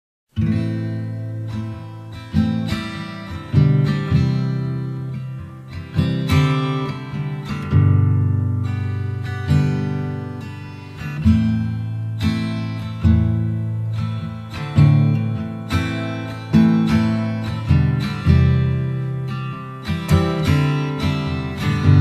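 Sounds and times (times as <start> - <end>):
acoustic guitar chords ringing: 0.4 - 22.0.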